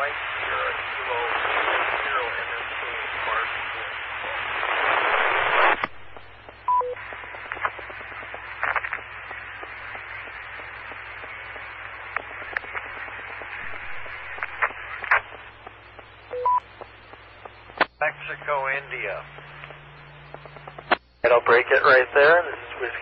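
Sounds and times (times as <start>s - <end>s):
radio static hiss: 0.0s - 23.0s
radio clicks: 3.5s - 23.0s.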